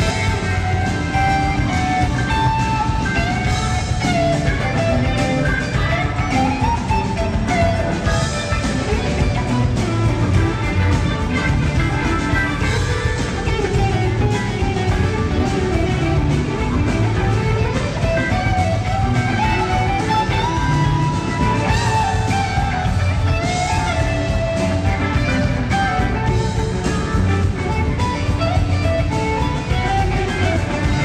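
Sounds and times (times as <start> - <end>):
bass guitar: 0.0 - 31.0
drums with cymbals: 0.0 - 31.0
electric guitar lead: 0.0 - 31.0.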